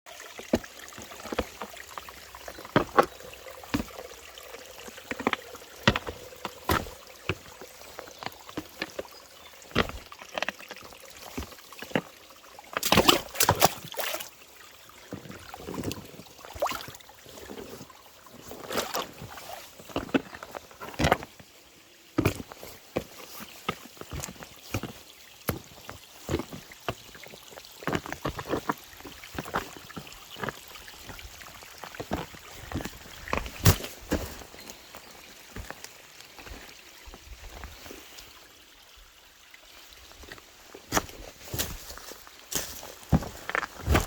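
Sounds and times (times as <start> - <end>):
spiked boots on stones: 0.1 - 14.2, 15.0 - 38.3, 40.1 - 44.0.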